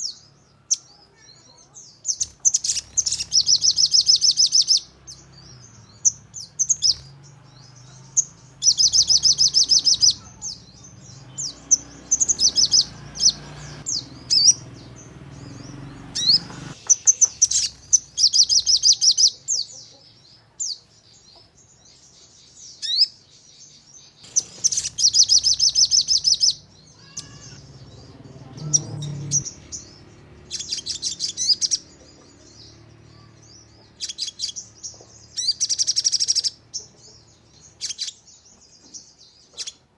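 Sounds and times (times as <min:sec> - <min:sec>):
songbird singing rapid high notes: 0:00.0 - 0:19.6, 0:24.1 - 0:38.4.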